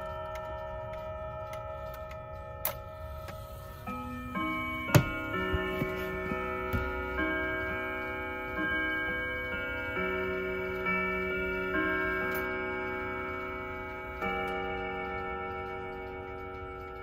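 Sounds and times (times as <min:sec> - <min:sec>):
pendulum clock ticking: 0:00.0 - 0:17.0
wall clock chiming a melody: 0:00.0 - 0:17.0.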